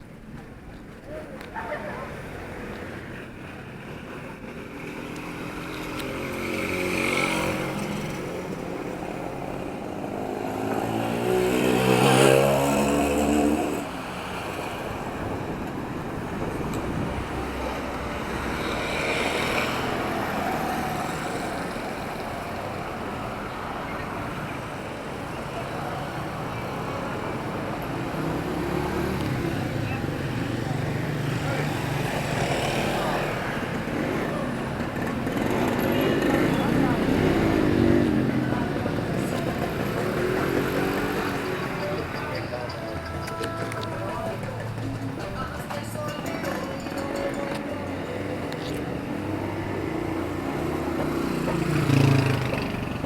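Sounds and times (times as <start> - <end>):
steady traffic hum: 0.0 - 53.0
motor vehicles passing: 0.1 - 53.0.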